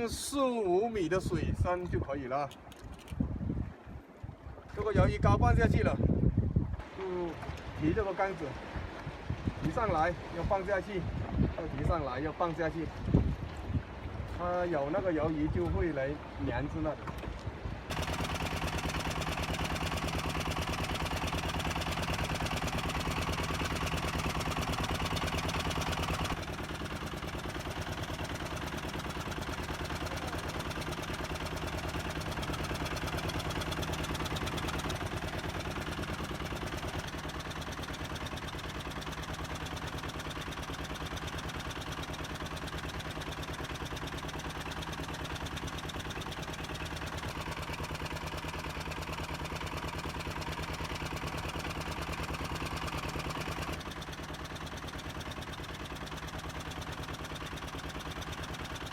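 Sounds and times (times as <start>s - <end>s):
boat engine idling: 6.6s - 58.9s.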